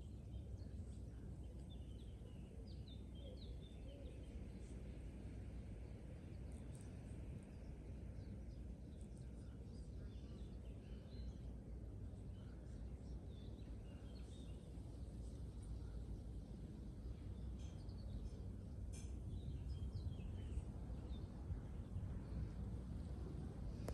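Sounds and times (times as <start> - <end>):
low outdoor rumble: 0.0 - 23.9.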